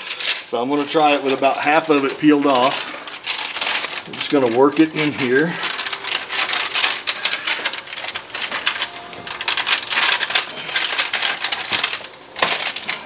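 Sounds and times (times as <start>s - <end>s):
foil insulation sheet crinkling: 0.0s - 13.0s.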